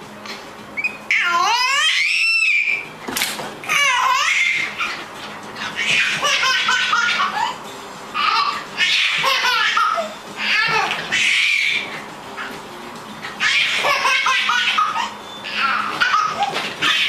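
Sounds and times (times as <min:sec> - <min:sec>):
baby laughing: 0:01.1 - 0:02.8, 0:03.6 - 0:07.6, 0:08.2 - 0:12.6, 0:13.4 - 0:17.0.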